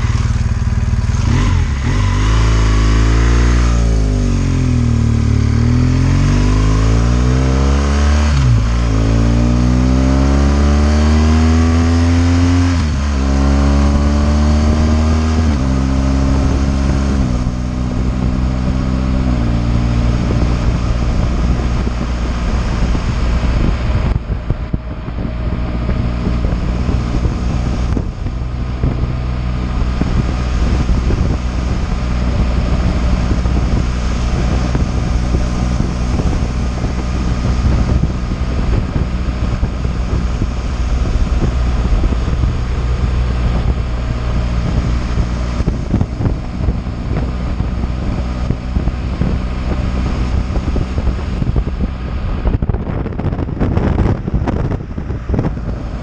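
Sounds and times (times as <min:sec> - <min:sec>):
motorcycle engine accelerating: 0:00.0 - 0:56.0
wind noise over microphone: 0:00.0 - 0:56.0.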